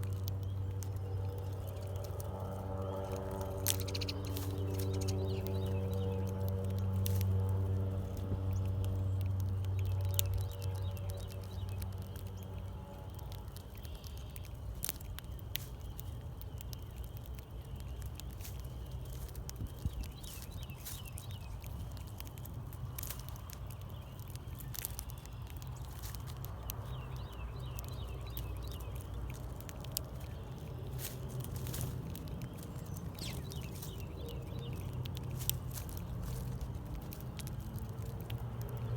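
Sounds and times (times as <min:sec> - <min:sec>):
low droning hum: 0:00.0 - 0:38.9
low steady rumble: 0:00.0 - 0:38.9
small birds chirping: 0:00.0 - 0:38.9.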